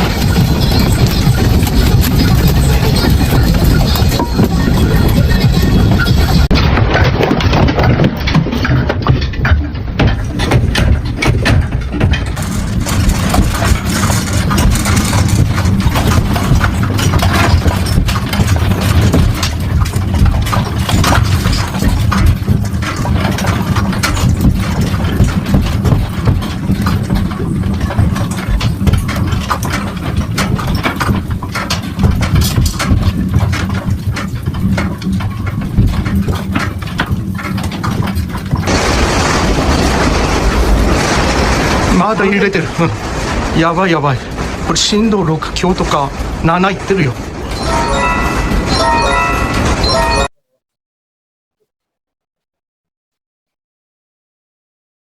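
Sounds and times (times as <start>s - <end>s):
rattling and clattering: 0.0s - 49.9s.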